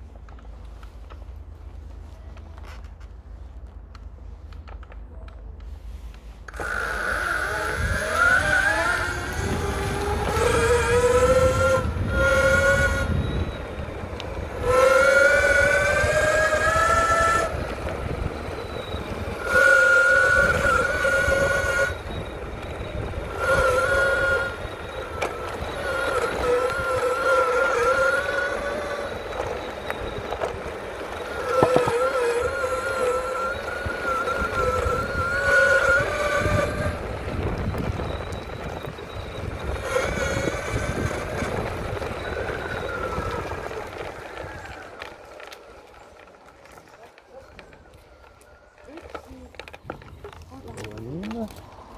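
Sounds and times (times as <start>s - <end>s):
electric motors whining: 6.4s - 51.9s.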